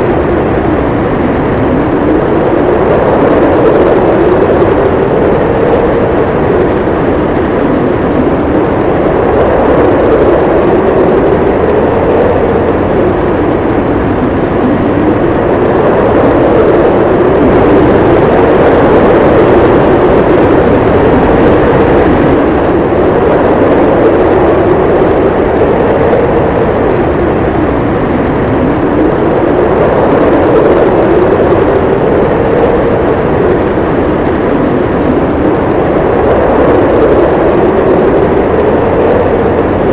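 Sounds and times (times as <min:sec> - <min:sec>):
howling wind: 0:00.0 - 0:39.9.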